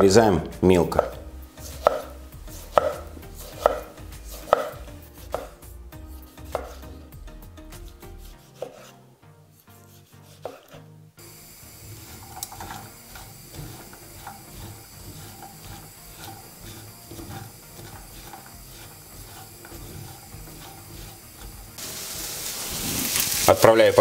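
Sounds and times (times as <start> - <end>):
vegetables sizzling: 0.7 - 7.1, 10.0 - 24.0
spatula scraping frying pan: 1.4 - 7.1, 7.7 - 23.4.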